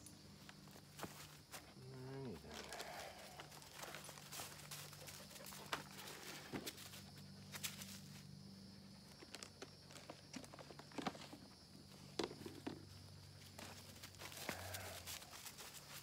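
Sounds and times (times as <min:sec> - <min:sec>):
faint footsteps: 0:00.4 - 0:08.3, 0:09.1 - 0:16.0.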